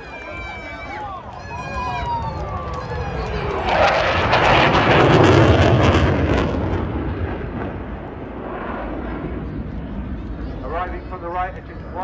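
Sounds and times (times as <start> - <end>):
jet aircraft roaring past: 0.0 - 12.0.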